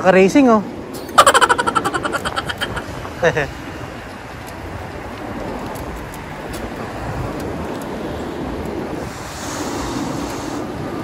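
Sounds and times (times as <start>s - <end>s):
road and traffic noise: 0.0s - 11.0s
wind on microphone: 0.6s - 11.0s.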